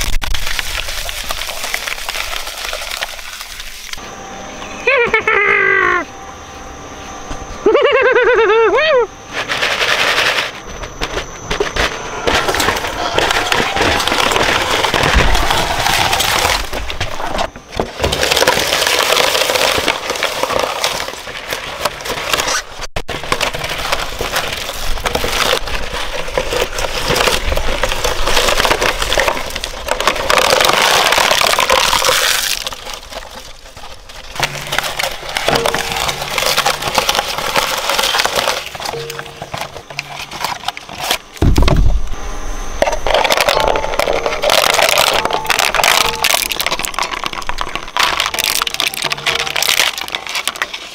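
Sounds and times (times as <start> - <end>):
shredder crushing plastic: 0.0 - 4.0, 7.7 - 42.2, 42.8 - 50.9.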